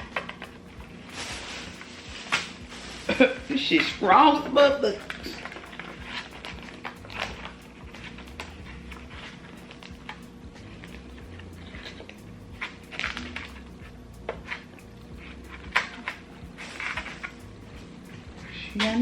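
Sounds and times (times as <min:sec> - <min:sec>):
faint low hum: 0:00.0 - 0:19.0
packets rustling: 0:00.0 - 0:19.0.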